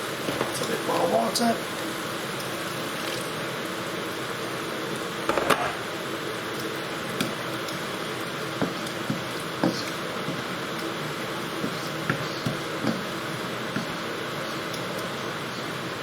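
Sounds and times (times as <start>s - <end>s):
paste bubbling and sizzling in pan: 0.0s - 16.0s.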